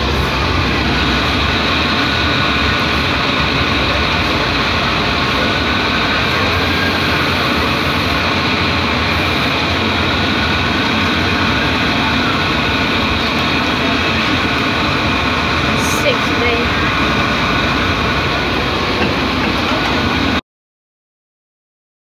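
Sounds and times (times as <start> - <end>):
bus engine drone: 0.0 - 20.4.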